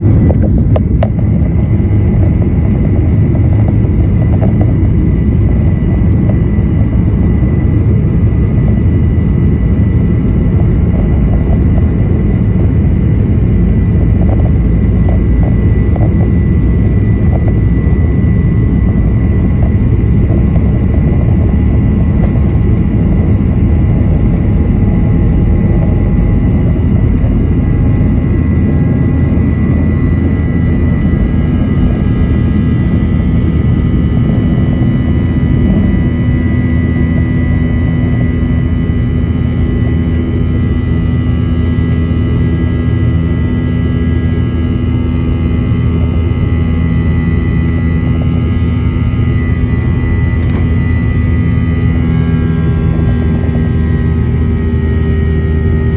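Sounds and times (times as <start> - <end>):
jet engines roaring: 0.0 - 55.9.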